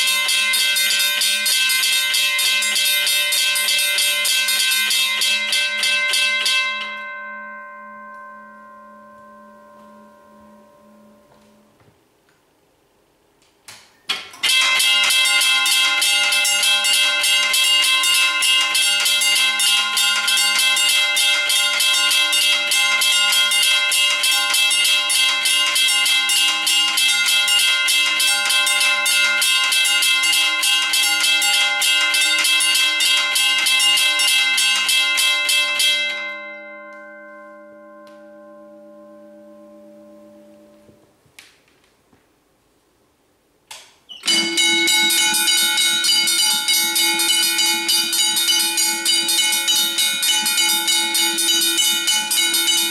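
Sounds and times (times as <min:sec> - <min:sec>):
level crossing bells clanging: 0:00.0 - 0:11.7, 0:14.1 - 0:41.0, 0:44.1 - 0:52.9.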